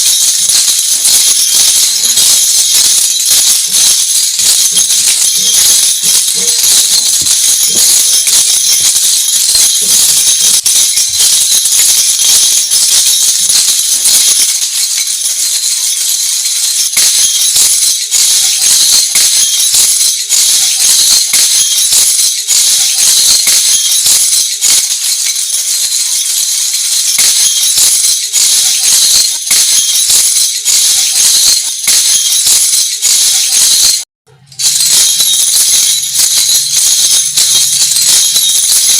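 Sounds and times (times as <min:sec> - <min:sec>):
metal jingles jangling: 0:00.0 - 0:38.9.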